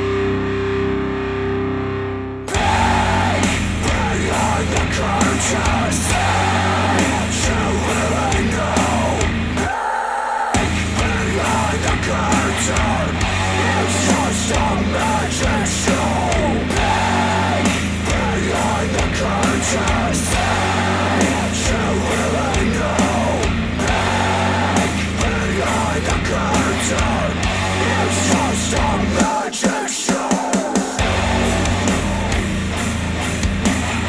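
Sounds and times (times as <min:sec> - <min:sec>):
rock music with shouted vocals: 0:00.0 - 0:34.0.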